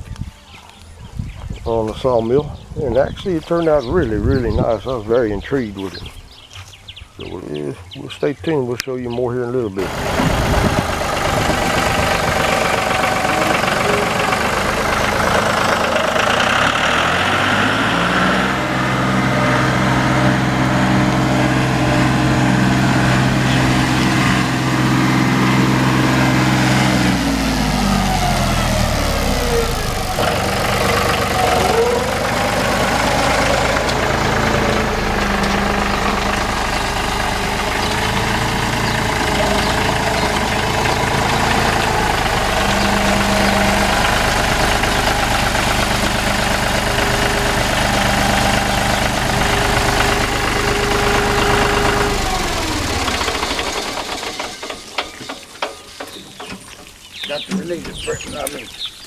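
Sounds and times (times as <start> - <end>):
tractor engine revving: 1.7 - 6.0, 7.4 - 58.8.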